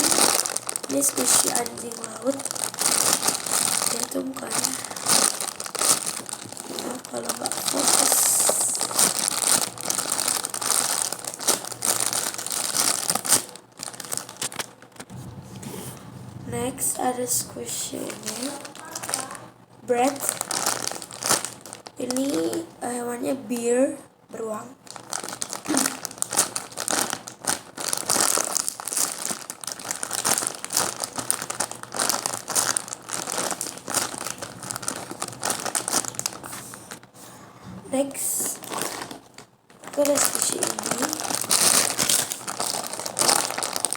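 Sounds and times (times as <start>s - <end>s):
squishy toys crinkling and rustling: 0.0s - 15.2s, 17.8s - 23.0s, 24.7s - 37.1s, 37.9s - 43.9s.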